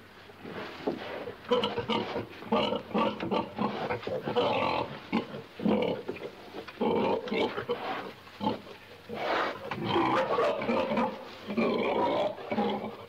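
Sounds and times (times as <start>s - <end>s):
pig grunting: 1.5s - 6.1s, 6.8s - 13.0s.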